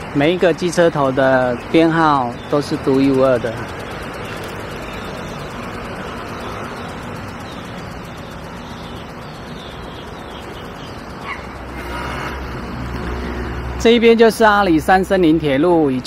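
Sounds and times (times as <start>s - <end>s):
steady outdoor rushing noise: 0.0s - 16.0s.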